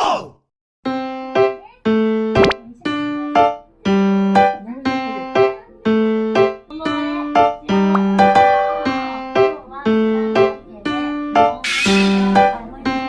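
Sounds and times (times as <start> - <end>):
keyboard melody: 0.9 - 13.0.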